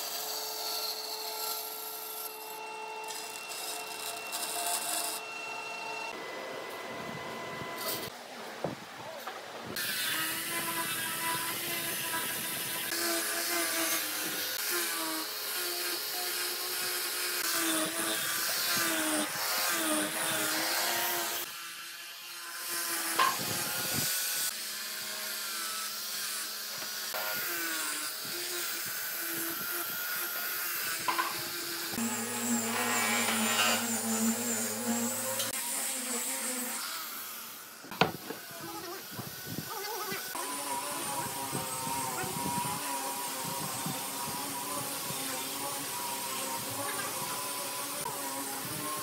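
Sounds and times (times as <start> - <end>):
small electric power tool running: 0.0 - 8.1, 9.8 - 49.0.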